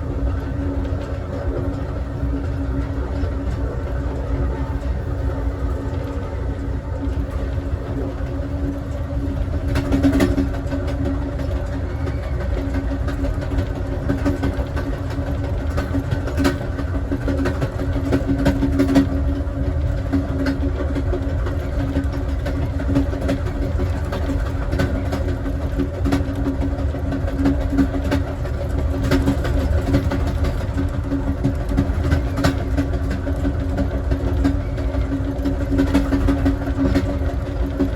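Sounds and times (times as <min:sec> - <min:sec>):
train rumble inside passenger car: 0:00.0 - 0:37.9.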